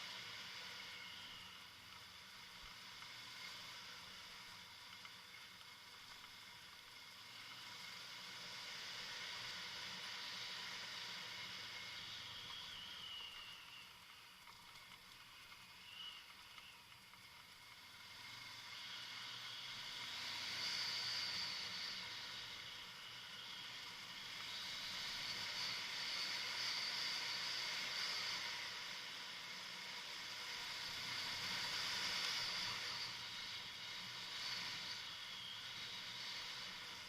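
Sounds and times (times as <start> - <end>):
faint low engine hum: 0.0 - 37.0.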